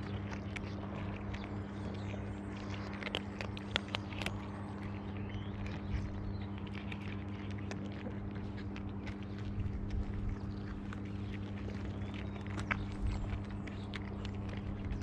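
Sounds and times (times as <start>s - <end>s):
cats crunching dry kibble: 0.0s - 15.0s
steady low hum: 0.0s - 15.0s.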